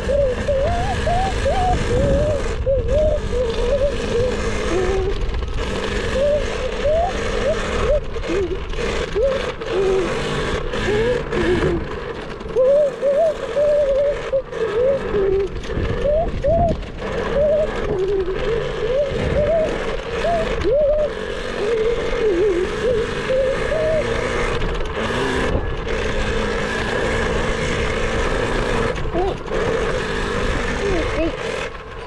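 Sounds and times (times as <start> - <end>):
electric motor whining: 0.0 - 32.0.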